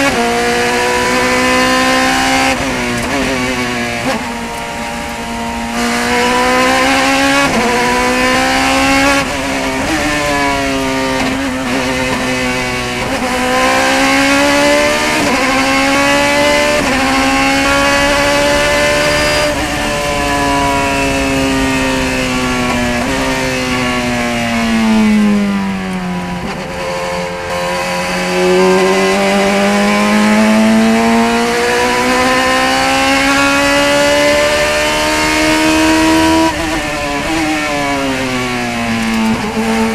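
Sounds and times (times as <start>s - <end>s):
racing car engine accelerating: 0.0s - 39.9s.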